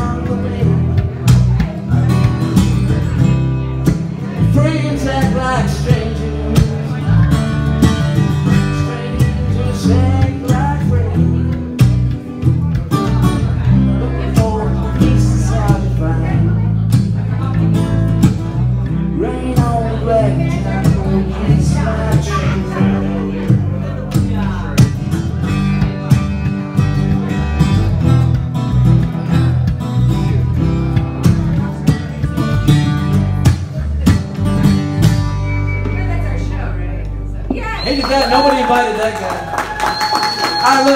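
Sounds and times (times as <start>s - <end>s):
acoustic guitar strumming: 0.0s - 37.8s.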